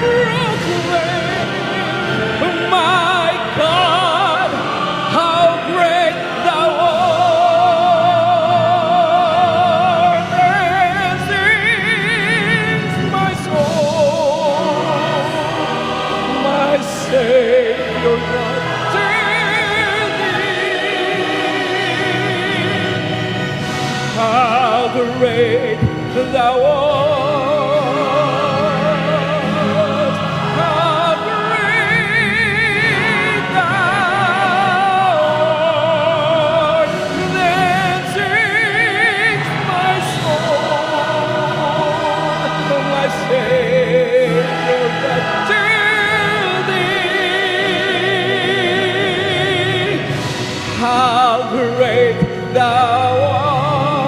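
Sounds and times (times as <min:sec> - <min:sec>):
sustained accompaniment: 0:00.0 - 0:54.0.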